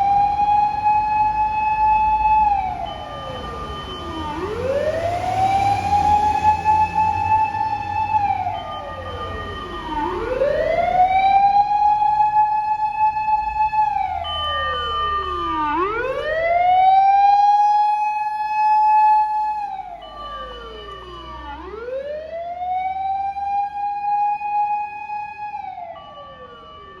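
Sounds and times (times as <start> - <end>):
fire engine siren wailing: 0.0 - 27.0
second siren steady tones: 0.0 - 27.0.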